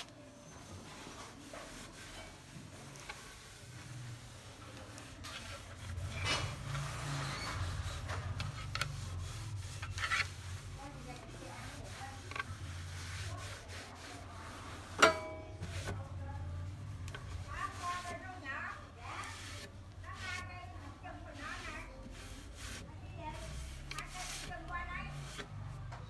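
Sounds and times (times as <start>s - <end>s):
cloth wiping across a table: 0.0s - 25.8s.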